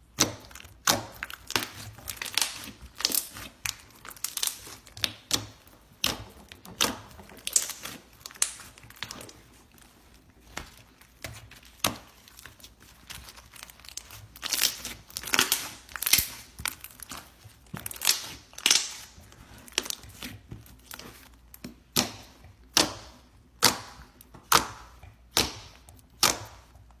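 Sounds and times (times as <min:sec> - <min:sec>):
slime crackling and popping: 0:00.0 - 0:27.0.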